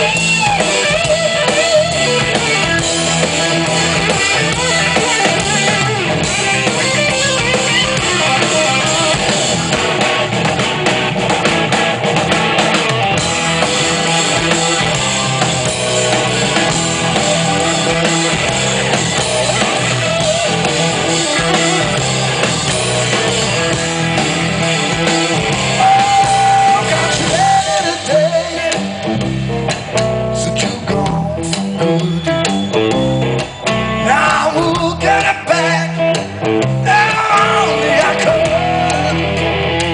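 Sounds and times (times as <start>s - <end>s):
blues-rock band playing live: 0.0s - 39.9s.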